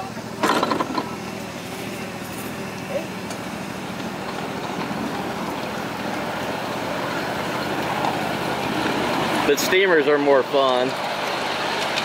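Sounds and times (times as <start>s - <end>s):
miniature train rumbling on track: 0.0s - 12.0s.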